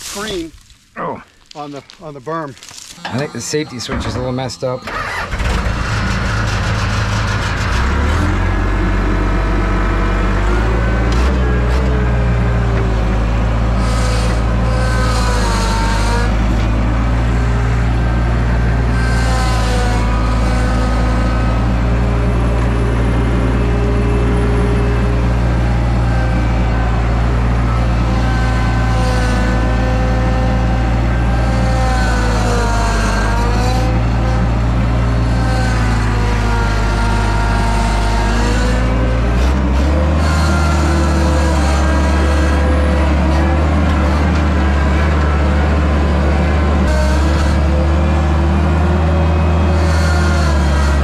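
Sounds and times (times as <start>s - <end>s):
skid steer engine running: 3.0s - 51.0s.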